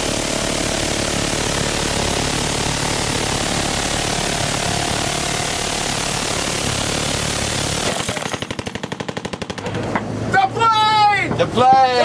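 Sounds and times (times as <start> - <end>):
minigun firing: 0.0 - 9.8.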